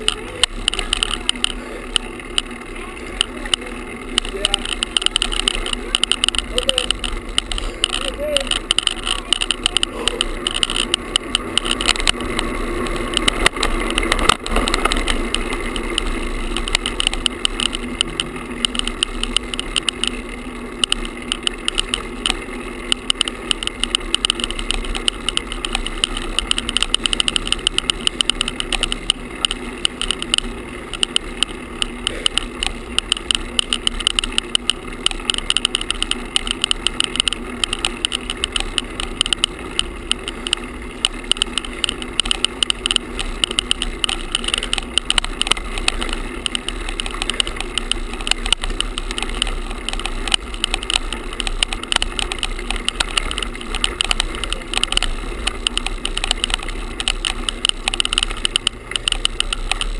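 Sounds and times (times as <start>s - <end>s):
camera rattling against loose mount: 0.0s - 59.9s.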